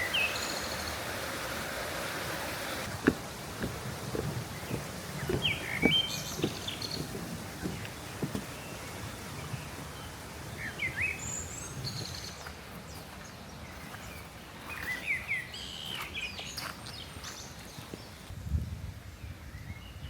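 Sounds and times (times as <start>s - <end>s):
small birds chirping: 0.0s - 1.1s, 2.6s - 18.3s.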